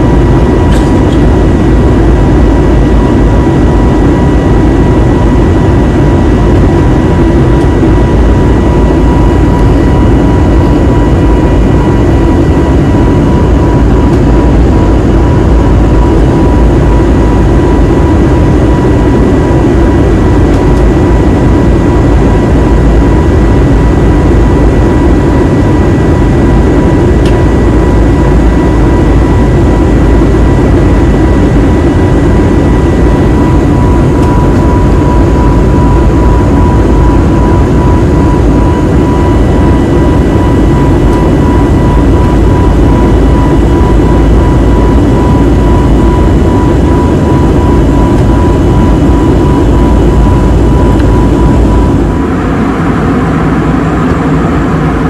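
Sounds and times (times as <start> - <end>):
high whine: 0.0 - 55.0
jet engine roar in cabin: 0.0 - 55.0.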